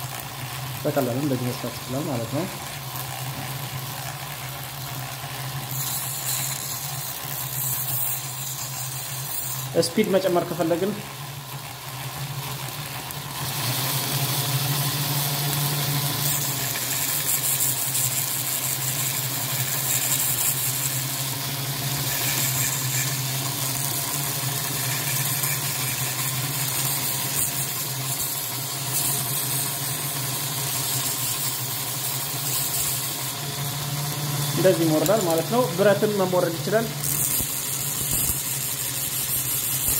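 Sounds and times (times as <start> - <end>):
sanding belt hissing on wood: 0.0 - 4.0, 4.6 - 11.2, 13.3 - 39.9
belt sander motor humming: 0.0 - 39.9.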